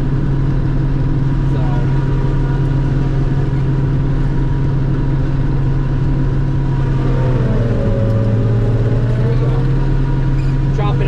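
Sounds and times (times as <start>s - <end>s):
harvester machine hum: 0.0s - 11.0s.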